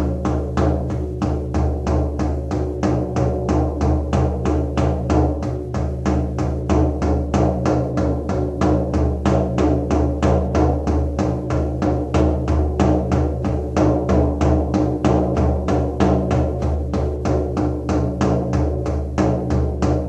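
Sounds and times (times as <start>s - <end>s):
frame drum beaten fast: 0.0s - 20.0s.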